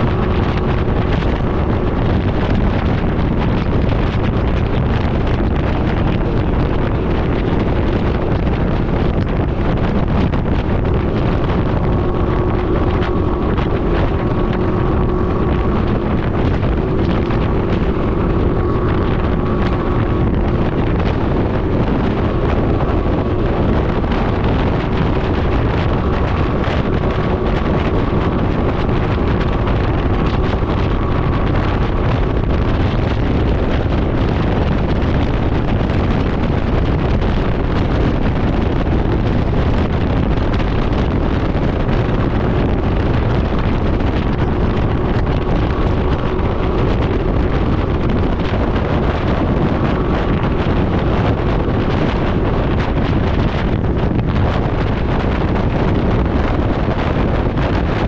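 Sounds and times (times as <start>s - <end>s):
engine droning: 0.0s - 58.0s
wind buffeting microphone: 0.0s - 58.0s.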